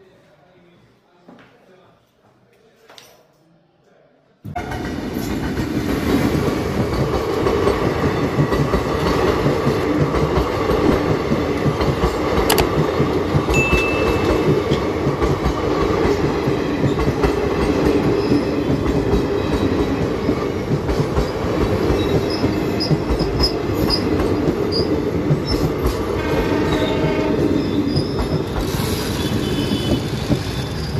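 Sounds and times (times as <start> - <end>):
train coaches rumbling: 4.5 - 30.9.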